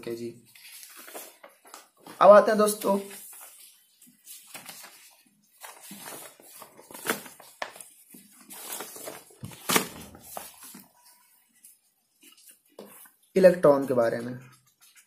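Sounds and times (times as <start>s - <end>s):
paper rustling and sliding: 0.5s - 13.2s.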